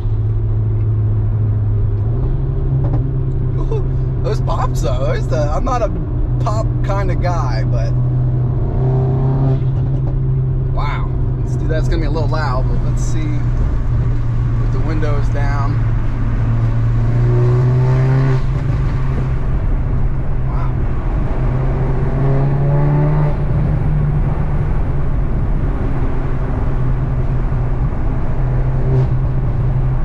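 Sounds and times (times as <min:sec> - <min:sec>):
car exhaust hum: 0:00.0 - 0:30.0
road noise: 0:00.0 - 0:30.0.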